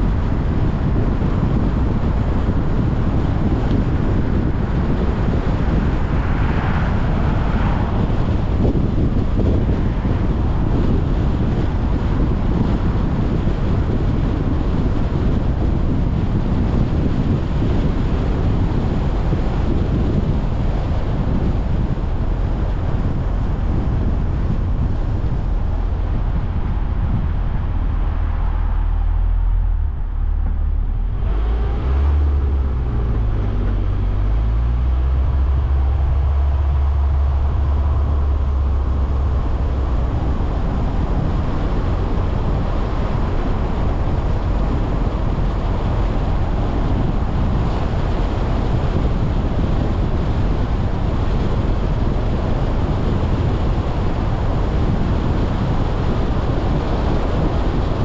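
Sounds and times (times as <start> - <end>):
low engine hum: 0.0 - 58.0
tyre road and wind noise: 0.0 - 58.0.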